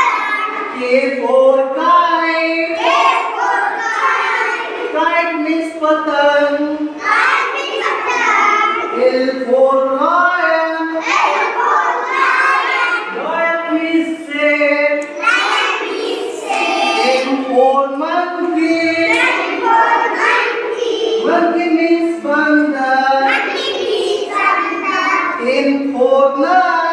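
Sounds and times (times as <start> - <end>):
young children singing in unison: 0.0 - 5.0, 6.8 - 26.9.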